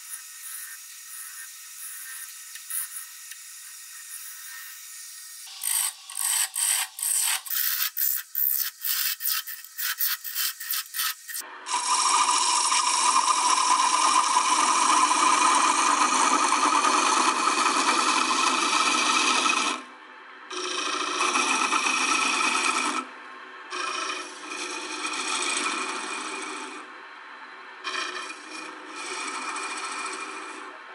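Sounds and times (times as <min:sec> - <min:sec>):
lathe chisel cutting wood: 0:00.0 - 0:07.9, 0:11.7 - 0:19.9, 0:20.5 - 0:23.1, 0:23.7 - 0:26.9, 0:27.8 - 0:30.9.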